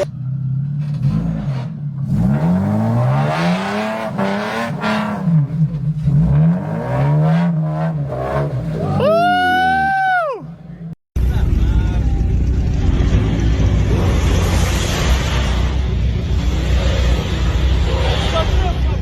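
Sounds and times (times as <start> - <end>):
engine revving: 0.0 - 9.9, 11.3 - 19.0.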